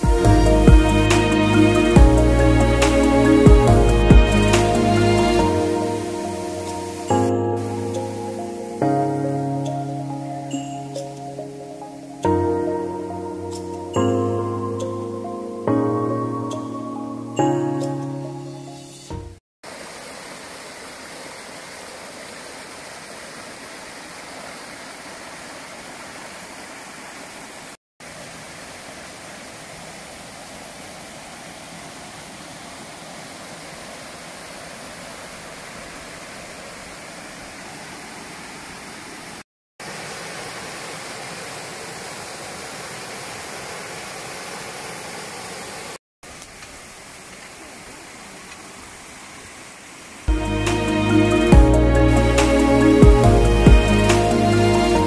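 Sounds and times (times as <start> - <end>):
stream rushing over rocks: 0.0 - 13.8, 19.6 - 55.0.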